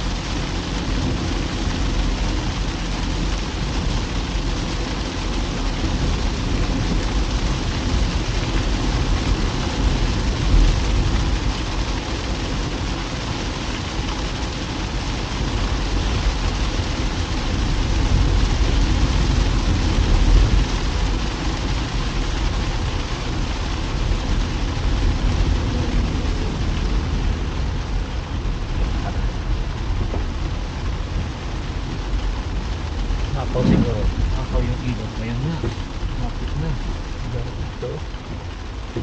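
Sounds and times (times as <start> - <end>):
car tyres and engine rumbling: 0.0 - 39.0
heavy rain hissing: 0.0 - 39.0.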